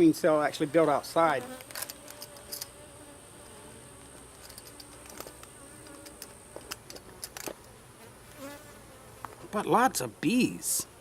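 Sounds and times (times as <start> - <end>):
bees buzzing: 0.6 - 9.5.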